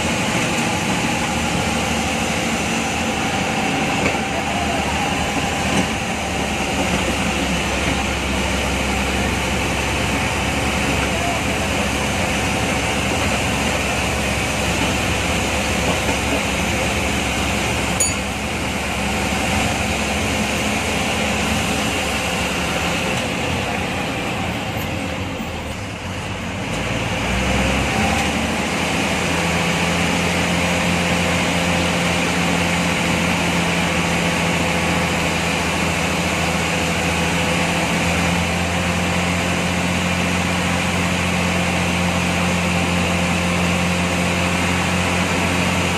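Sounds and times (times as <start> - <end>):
bus diesel engine running: 0.0 - 45.9.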